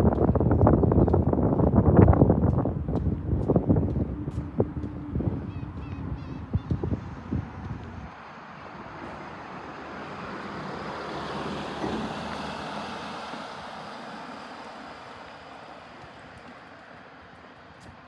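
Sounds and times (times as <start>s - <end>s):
vehicle passing: 2.7s - 17.8s.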